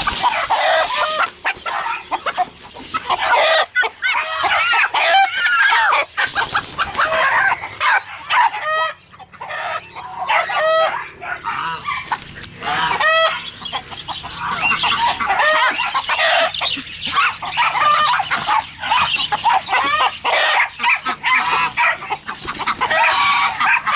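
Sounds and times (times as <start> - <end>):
chickens clucking and squawking: 0.0 - 23.9.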